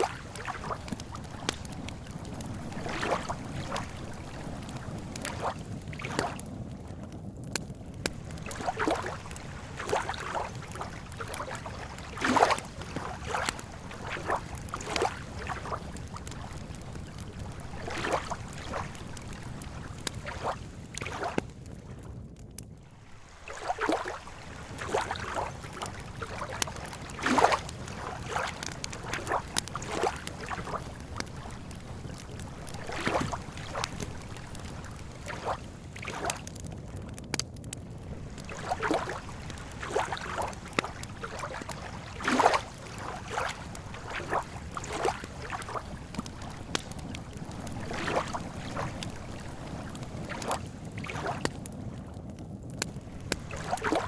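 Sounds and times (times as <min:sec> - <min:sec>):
lake water lapping: 0:00.0 - 0:06.5, 0:08.0 - 0:21.5, 0:22.8 - 0:36.5, 0:38.0 - 0:51.8, 0:52.9 - 0:54.0
campfire crackling: 0:00.0 - 0:54.0.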